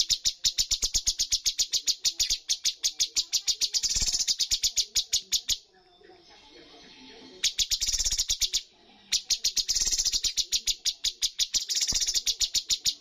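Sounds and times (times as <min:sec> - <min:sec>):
bird singing sharp high notes: 0:00.0 - 0:05.6, 0:07.4 - 0:13.0.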